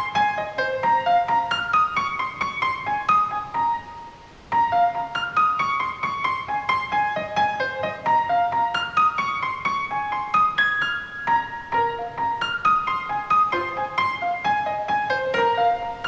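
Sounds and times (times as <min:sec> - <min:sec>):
quick piano melody: 0:00.0 - 0:16.0.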